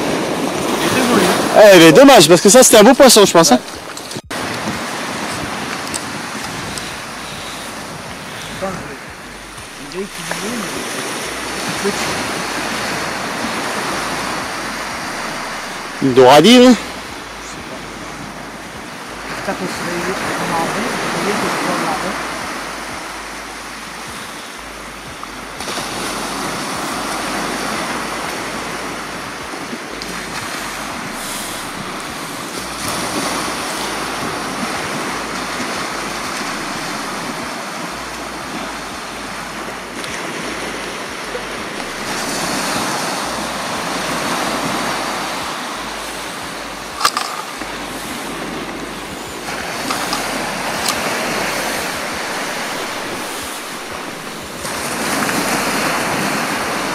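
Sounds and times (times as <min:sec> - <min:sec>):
surf washing onto beach: 0:00.0 - 0:56.9.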